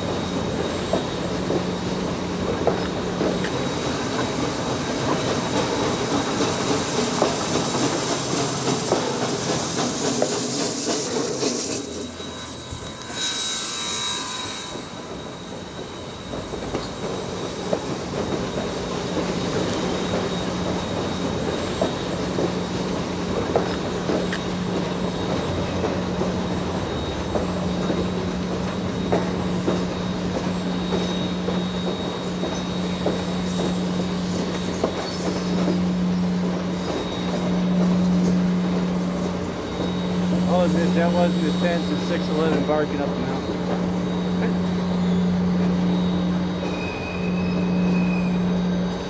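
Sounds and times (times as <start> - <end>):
high wheel squeal: 0.0 - 49.0.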